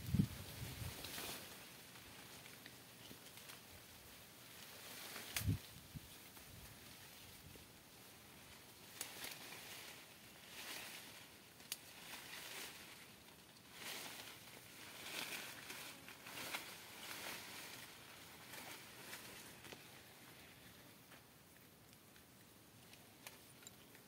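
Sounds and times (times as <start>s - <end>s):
faint rustling of leaves: 0.0s - 24.0s.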